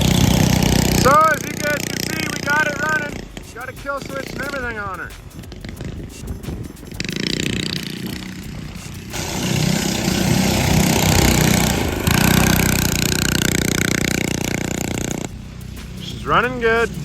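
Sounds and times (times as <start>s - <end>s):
go-kart engine revving: 0.0s - 17.0s.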